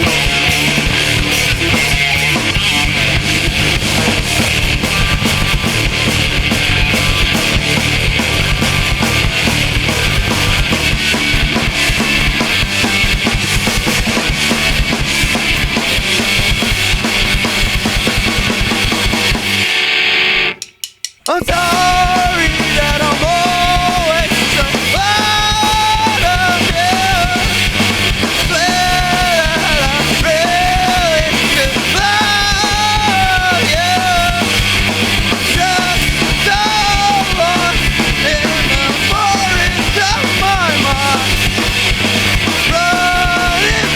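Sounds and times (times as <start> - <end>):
bending guitar melody: 0.0 - 43.9
live rock band playing: 0.0 - 43.9.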